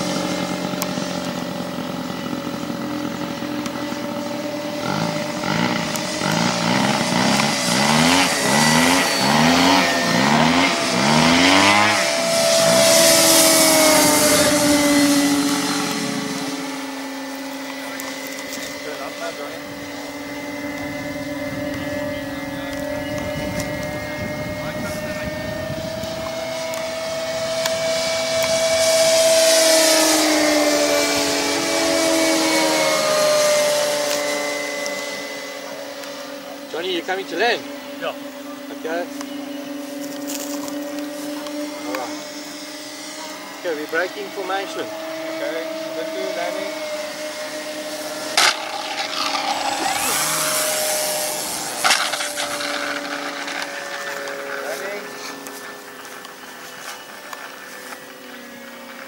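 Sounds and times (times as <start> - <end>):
model plane motor whine: 0.0 - 59.0.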